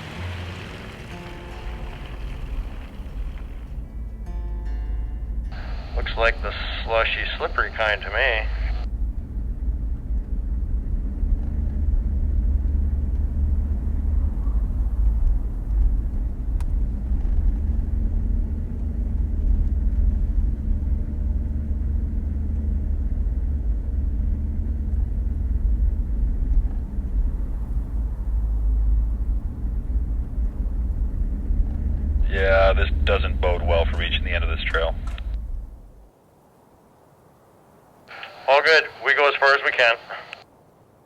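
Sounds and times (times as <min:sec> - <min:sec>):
vehicle engine and tyres rumbling: 0:00.0 - 0:38.6.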